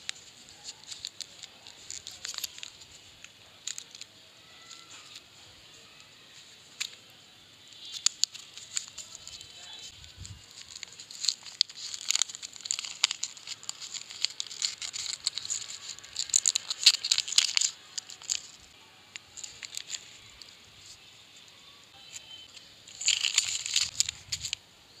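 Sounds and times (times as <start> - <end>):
plastic wrappers crinkling: 0.0 - 7.0, 7.6 - 21.1, 22.0 - 24.6.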